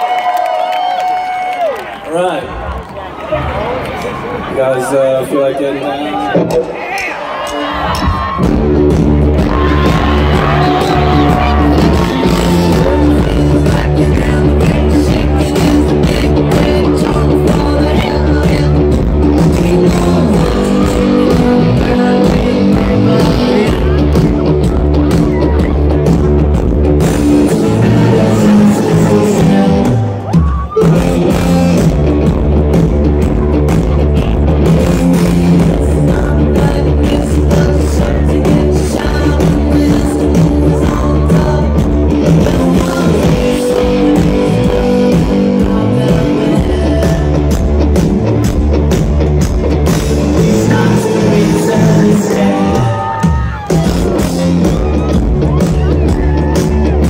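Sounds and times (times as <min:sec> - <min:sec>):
live rock band through pa: 0:05.9 - 0:57.0
drums: 0:06.1 - 0:57.0
bass guitar: 0:06.2 - 0:57.0
electric guitars: 0:06.2 - 0:57.0.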